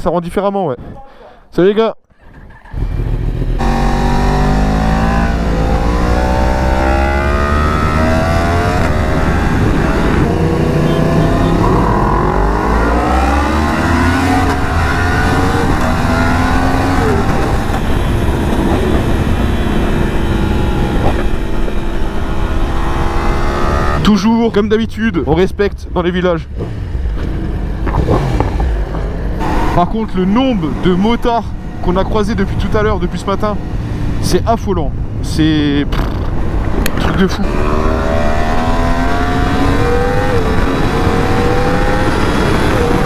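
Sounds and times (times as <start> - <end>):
motorcycle engine revving: 2.2 - 24.1, 26.5 - 34.4, 35.9 - 43.0
other motorcycles running alongside: 2.4 - 24.3, 26.5 - 43.0.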